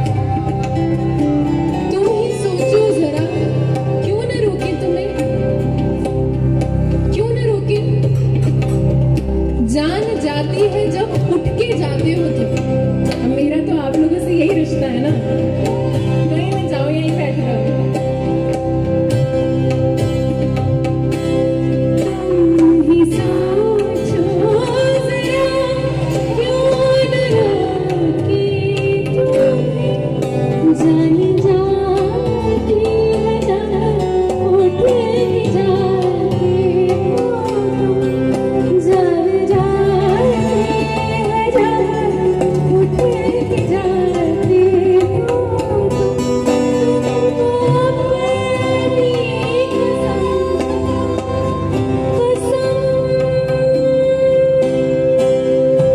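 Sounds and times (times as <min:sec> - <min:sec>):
woman singing: 0:00.0 - 0:06.3, 0:07.0 - 0:18.1, 0:21.9 - 0:55.9
guitar: 0:00.0 - 0:55.9
keyboard: 0:00.0 - 0:55.9
tabla: 0:00.0 - 0:55.9.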